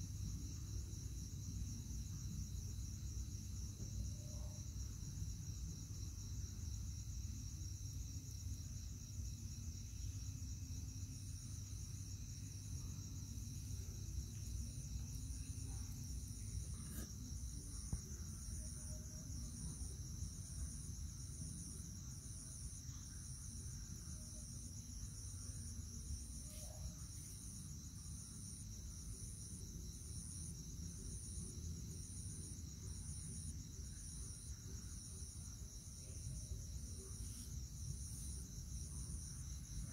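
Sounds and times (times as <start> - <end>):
insect chirping rhythmically: 0.0 - 39.9.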